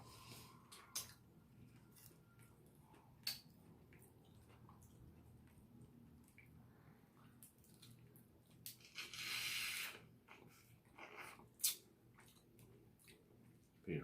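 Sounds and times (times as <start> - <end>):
wet squishing eating sounds: 0.6 - 13.8.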